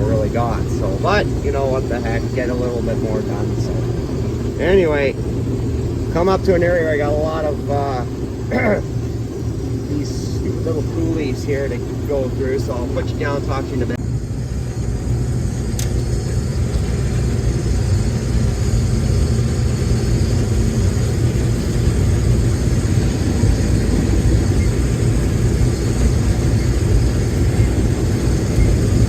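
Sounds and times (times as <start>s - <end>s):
combine harvester drone: 0.0s - 29.0s.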